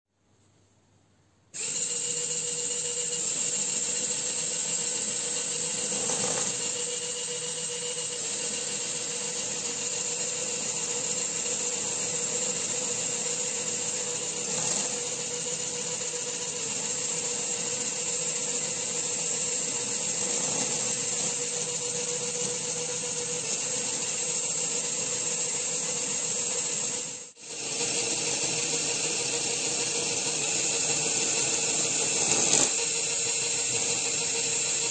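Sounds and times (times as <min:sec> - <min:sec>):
toy motor whirring: 0:01.6 - 0:34.9.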